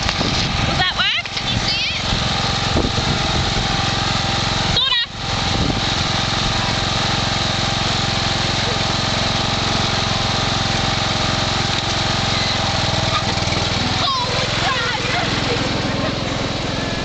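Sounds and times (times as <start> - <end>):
ride-on lawn mower engine: 0.0 - 17.0.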